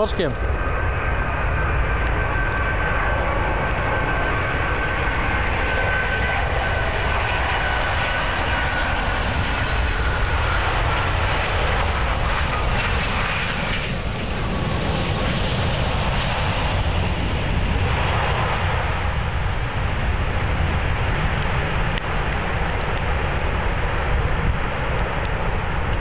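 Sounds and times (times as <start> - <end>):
jet engine whine: 0.0 - 26.0
low rumble: 0.0 - 26.0.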